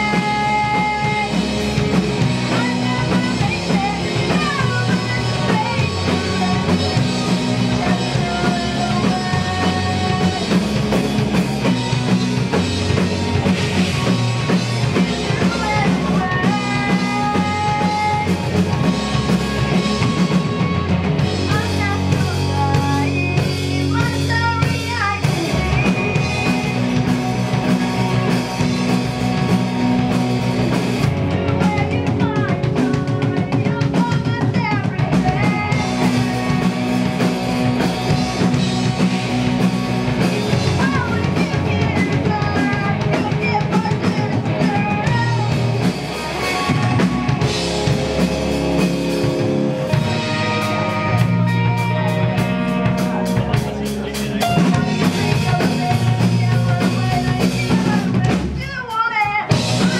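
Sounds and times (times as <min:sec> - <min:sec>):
person singing: 0:00.0 - 0:30.1, 0:30.7 - 0:48.2, 0:49.8 - 0:59.9
drum kit: 0:00.0 - 0:59.9
electric guitars and bass: 0:00.0 - 0:59.9.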